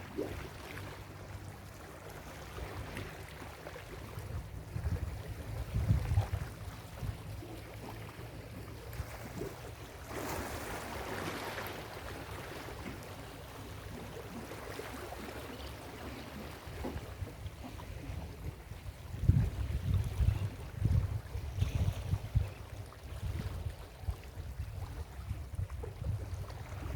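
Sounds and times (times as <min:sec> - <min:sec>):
ocean waves washing on beach: 0:00.0 - 0:25.9.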